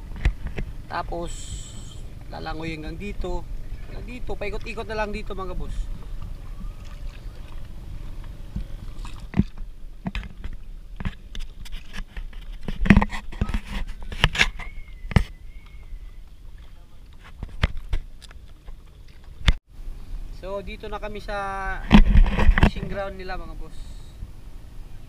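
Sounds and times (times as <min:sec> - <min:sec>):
water rumble: 0:00.0 - 0:25.0
wind: 0:00.0 - 0:25.0.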